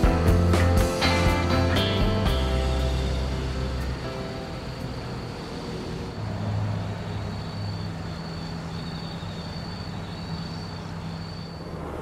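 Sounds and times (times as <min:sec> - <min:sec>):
van engine idling: 0:00.0 - 0:11.6
faint high pulsing trill: 0:02.2 - 0:12.0.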